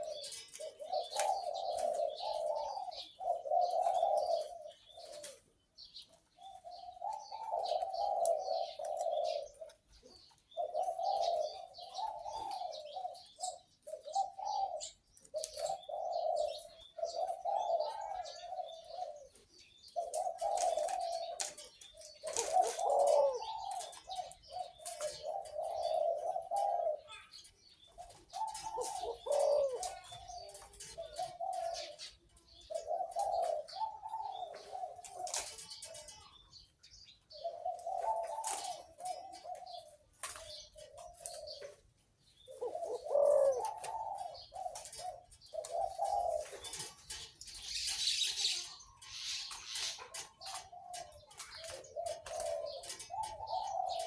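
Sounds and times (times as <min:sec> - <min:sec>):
dove cooing: 0:00.0 - 0:54.0
small birds chirping: 0:00.0 - 0:54.0.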